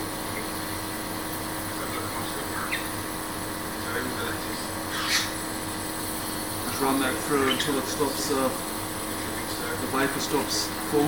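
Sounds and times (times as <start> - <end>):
nebulizer humming: 0.0 - 11.0.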